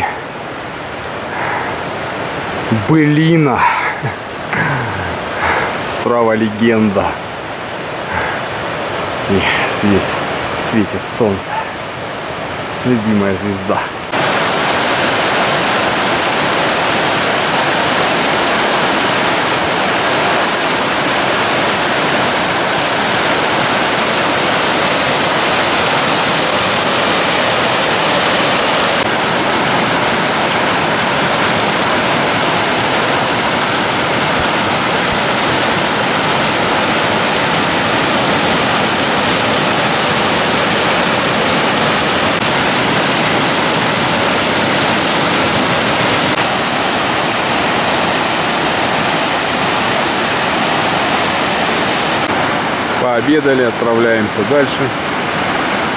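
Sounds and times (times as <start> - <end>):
river rushing over rocks: 0.0 - 55.9.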